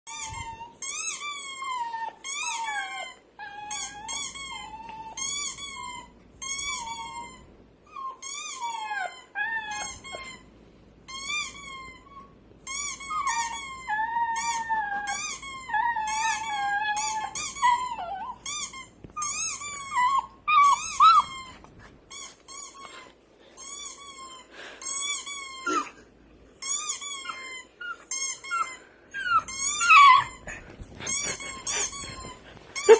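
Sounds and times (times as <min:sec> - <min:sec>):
puppy whimpering: 0:00.1 - 0:10.5, 0:11.1 - 0:32.9.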